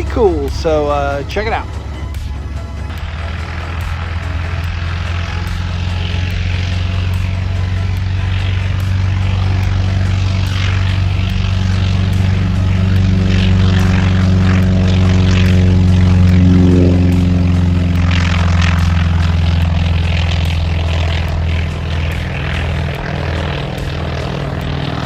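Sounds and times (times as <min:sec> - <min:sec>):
propeller airplane engine drone: 0:00.0 - 0:25.0.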